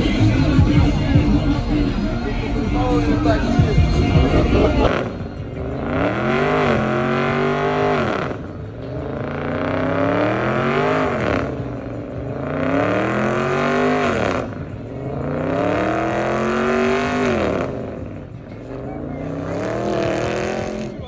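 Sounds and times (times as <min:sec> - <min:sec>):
car engine revving hard: 0:03.9 - 0:21.0.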